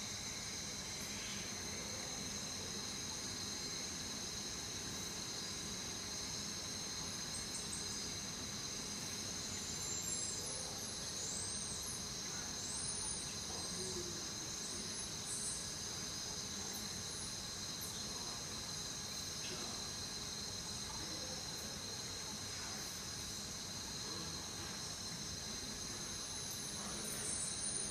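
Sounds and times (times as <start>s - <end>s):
high-pitched insect trilling: 0.0s - 27.9s.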